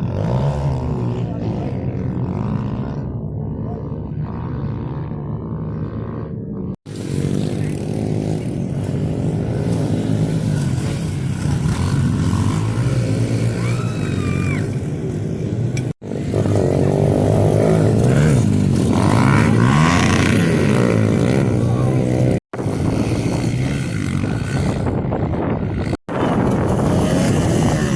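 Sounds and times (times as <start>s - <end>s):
pit bike engines revving: 0.0s - 27.9s.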